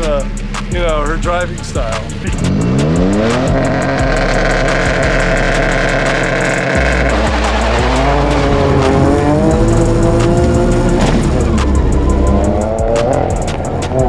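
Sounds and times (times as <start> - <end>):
car engine revving: 0.0 - 14.0
music with steady beat: 0.0 - 14.0.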